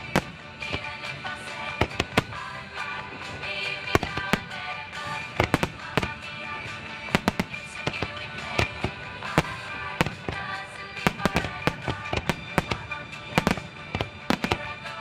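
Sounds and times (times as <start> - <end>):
fireworks shells bursting: 0.0 - 15.0
music with sustained tones: 0.0 - 15.0.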